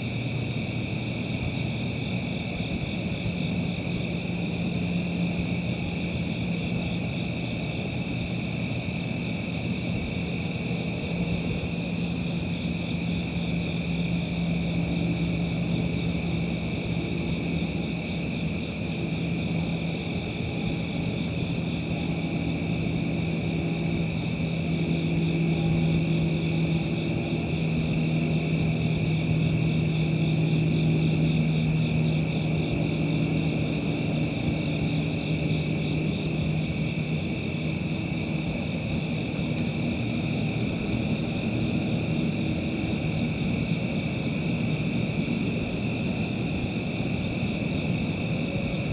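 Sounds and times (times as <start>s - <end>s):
constant low hum: 0.0s - 48.9s.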